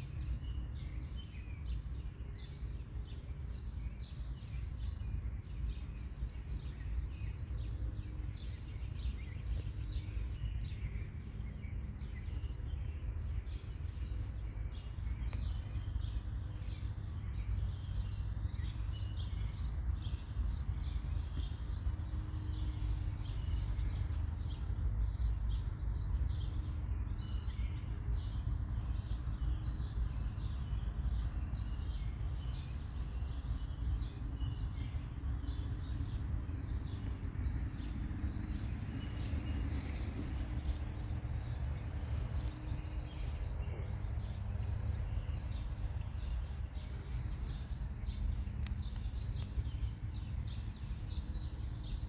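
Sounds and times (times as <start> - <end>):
small birds chirping: 0.0 - 52.0
steady low rumble: 0.0 - 52.0.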